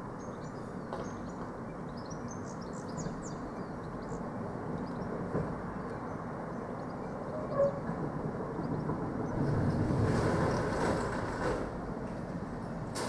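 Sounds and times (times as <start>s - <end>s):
delivery vehicles rumbling: 0.0s - 13.0s.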